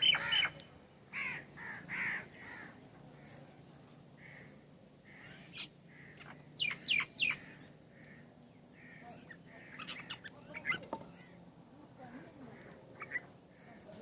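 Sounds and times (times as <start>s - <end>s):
birds chirping: 0.0s - 14.0s
soft bird calls: 0.0s - 14.0s.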